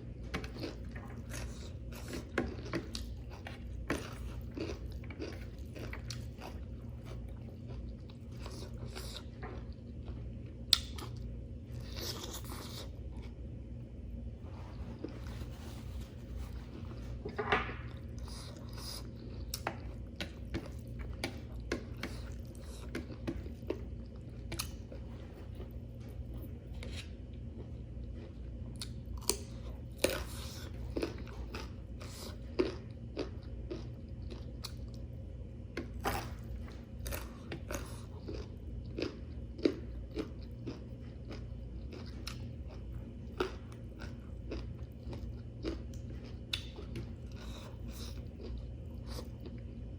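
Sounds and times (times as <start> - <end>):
person chewing food: 0.0 - 49.9
steady low hum: 0.0 - 49.9.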